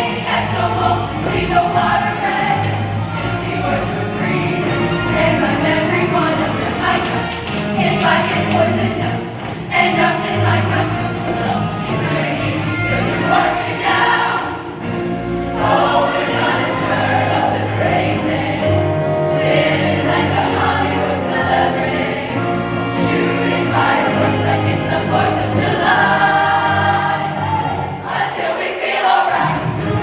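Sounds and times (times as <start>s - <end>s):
instrumental accompaniment: 0.0s - 30.0s
women's choir singing in parts: 0.0s - 30.0s.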